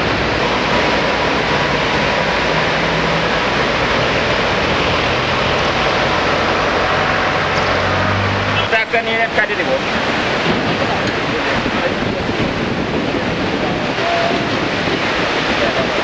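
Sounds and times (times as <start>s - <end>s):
water rushing over a weir: 0.0s - 16.0s.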